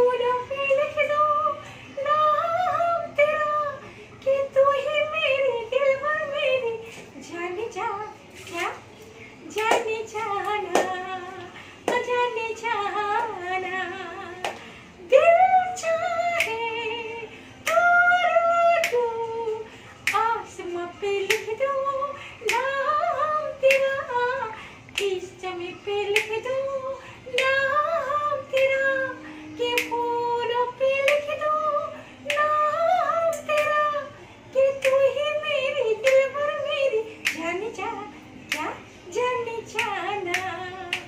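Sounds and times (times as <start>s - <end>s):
woman singing solo: 0.0s - 41.0s.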